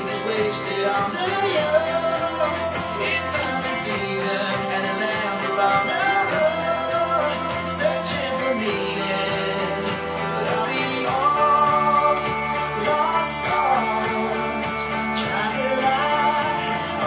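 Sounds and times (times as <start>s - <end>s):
instrumental backing: 0.0s - 17.0s
person singing: 0.0s - 17.0s.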